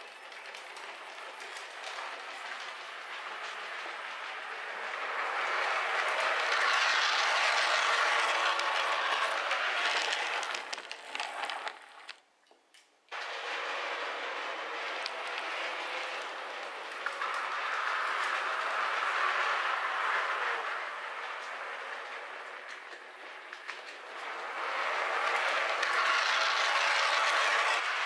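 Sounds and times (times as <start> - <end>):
model trams whirring on track: 0.0 - 12.2, 13.1 - 28.0.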